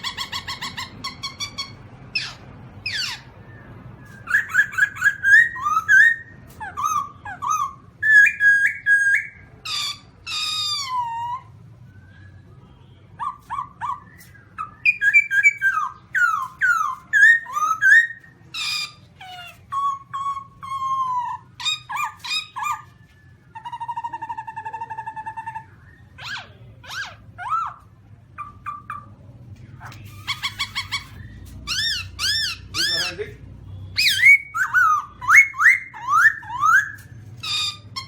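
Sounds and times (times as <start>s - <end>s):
bird calling with whistled notes: 0.0s - 27.8s, 29.8s - 33.2s, 33.9s - 38.0s.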